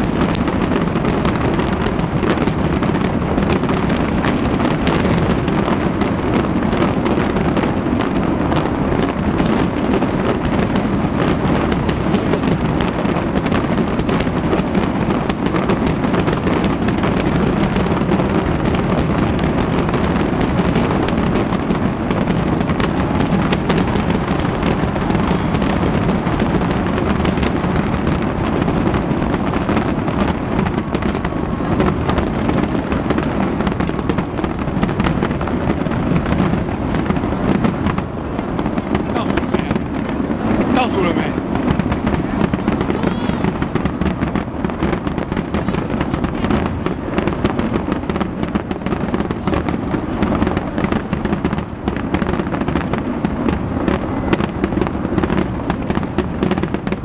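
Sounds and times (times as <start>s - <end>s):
fireworks bangs: 0.0s - 57.0s
fireworks crackles: 0.0s - 57.0s.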